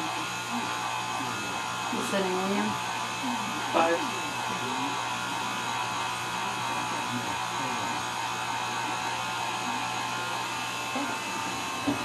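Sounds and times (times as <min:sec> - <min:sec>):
pasta machine motor humming: 0:00.0 - 0:12.0.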